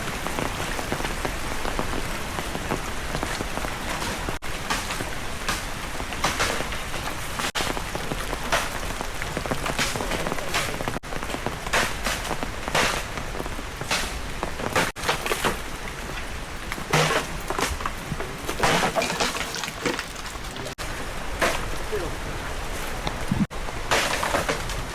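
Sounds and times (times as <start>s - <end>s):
heavy rain pouring: 0.0s - 24.9s.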